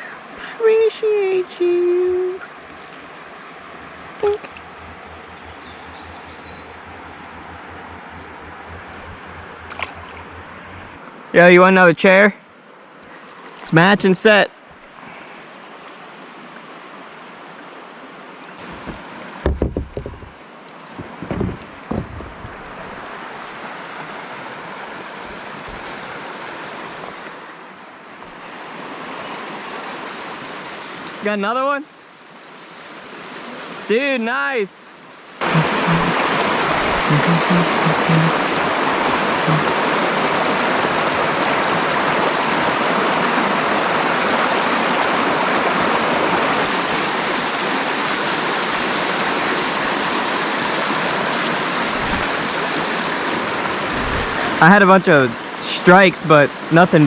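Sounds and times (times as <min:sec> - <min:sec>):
river water rushing: 0:00.0 - 0:11.2, 0:18.6 - 0:31.3, 0:34.8 - 0:57.0.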